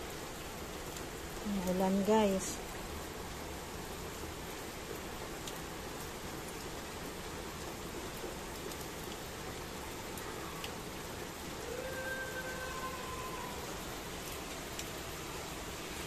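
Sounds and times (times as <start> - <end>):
rain on wet pavement: 0.0 - 16.0.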